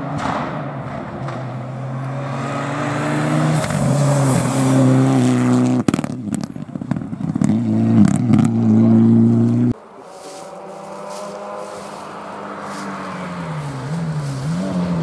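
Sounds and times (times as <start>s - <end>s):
rally car engine at high revs: 1.3s - 9.8s, 10.6s - 15.0s.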